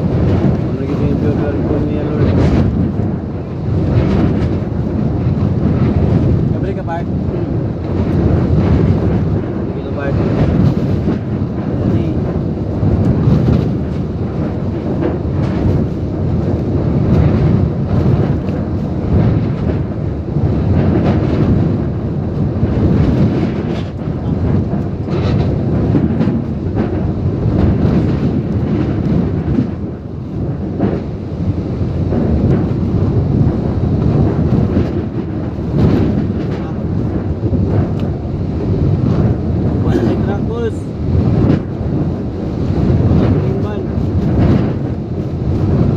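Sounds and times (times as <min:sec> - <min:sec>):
wind and heavy rain rushing: 0:00.0 - 0:45.9.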